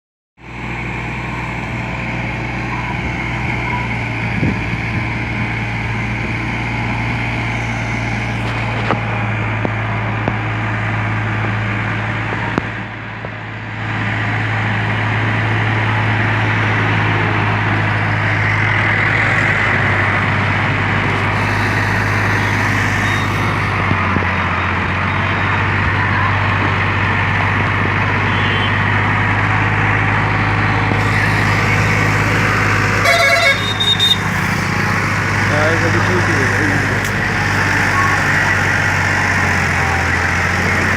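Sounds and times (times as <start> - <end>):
tractor diesel engine running: 0.4 - 40.9.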